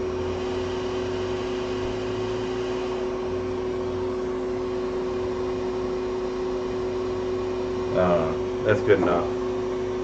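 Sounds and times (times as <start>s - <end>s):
hot air station fan whirring: 0.0s - 10.0s.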